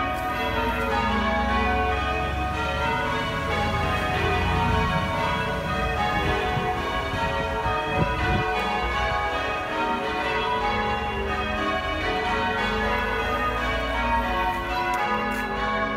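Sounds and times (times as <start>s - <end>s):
church bells ringing: 0.0s - 15.9s.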